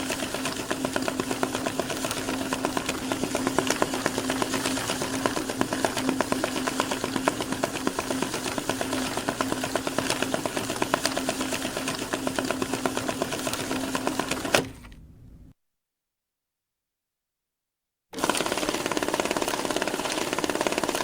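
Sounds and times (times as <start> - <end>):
banknote counting machine running: 0.0 - 15.4, 18.2 - 21.0.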